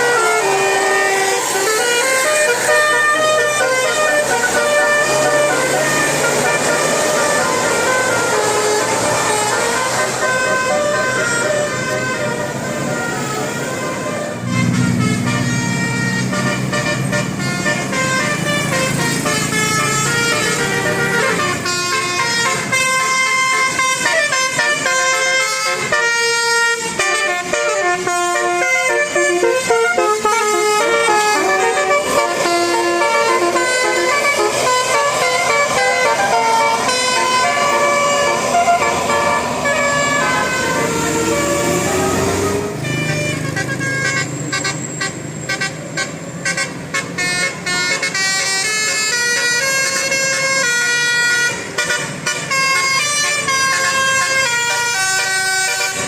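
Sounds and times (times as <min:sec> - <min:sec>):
bus engine running: 0:00.0 - 0:56.0
musical air horn playing a tune: 0:00.0 - 0:56.0.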